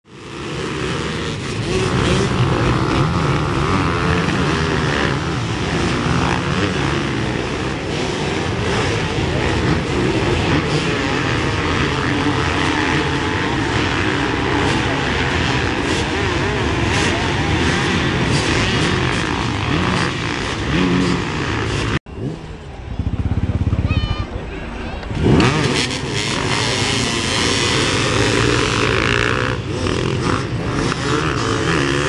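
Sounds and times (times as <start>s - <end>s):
motor engines droning: 0.1s - 32.0s.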